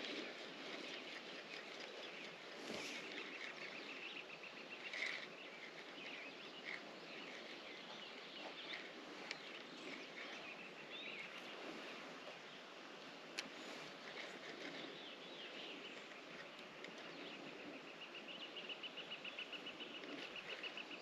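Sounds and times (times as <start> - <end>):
small birds chirping: 0.0 - 21.0
steady outdoor hiss: 0.0 - 21.0.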